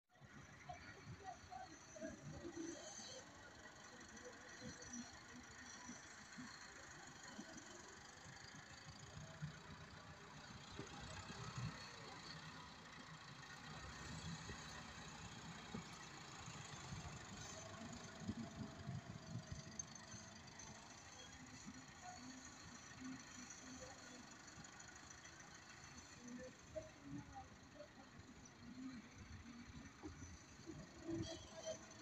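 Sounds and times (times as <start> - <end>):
tractor diesel engine rumble: 0.3 - 32.0.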